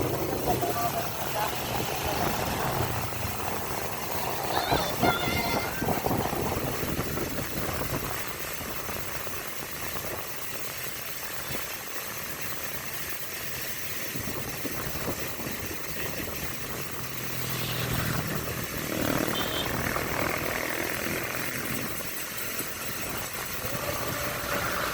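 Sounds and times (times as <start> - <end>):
road and wind noise: 0.0 - 24.9
vehicle engine hum: 0.0 - 24.9.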